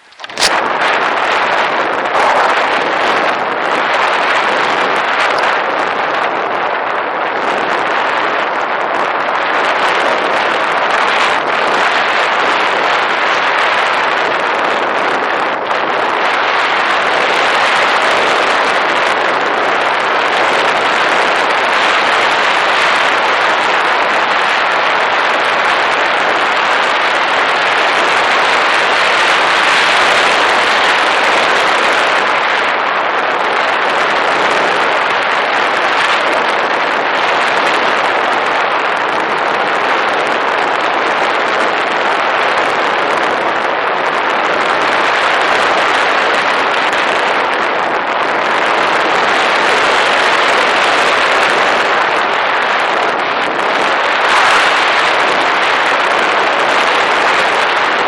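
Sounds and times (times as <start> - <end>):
airflow rushing over camera: 0.0 - 58.0.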